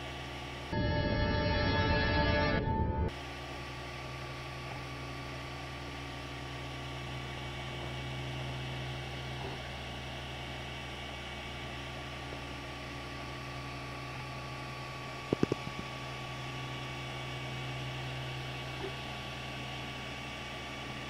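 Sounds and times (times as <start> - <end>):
printer fans and motors humming: 0.0 - 21.0.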